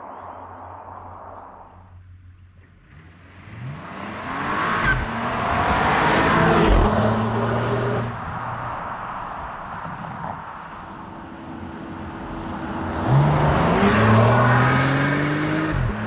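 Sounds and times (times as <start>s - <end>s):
car engine accelerating: 0.2s - 8.8s, 11.6s - 16.0s.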